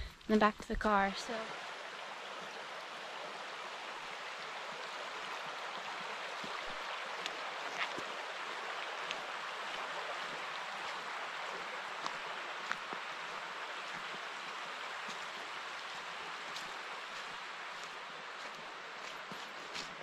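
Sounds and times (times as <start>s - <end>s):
creek flowing over gravel: 0.0s - 20.0s.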